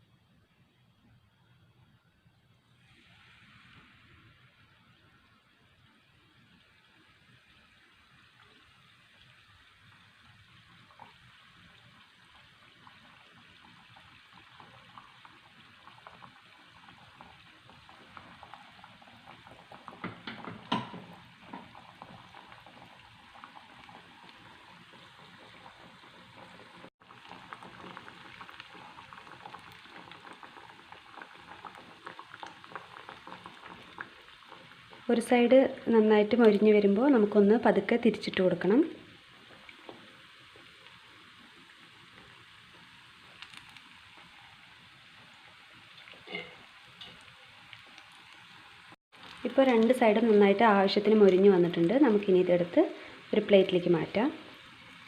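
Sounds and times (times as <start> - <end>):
food sizzling in oil: 2.8 - 55.0.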